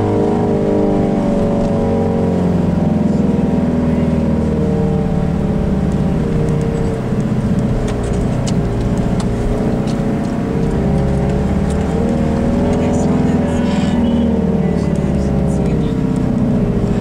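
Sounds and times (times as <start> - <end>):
low road rumble: 0.0 - 17.0
vehicle engine running: 0.0 - 17.0.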